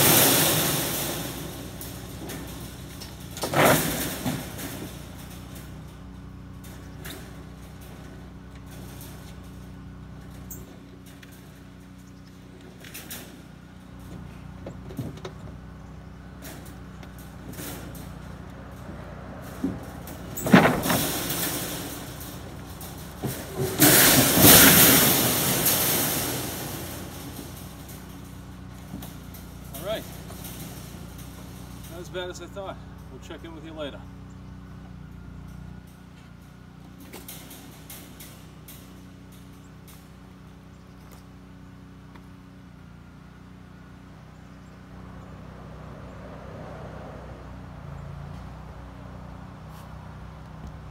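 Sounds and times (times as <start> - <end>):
metal panels scraping: 0.0 - 41.9
metal panels clanging: 0.0 - 43.6
vehicle engine running: 0.0 - 50.9.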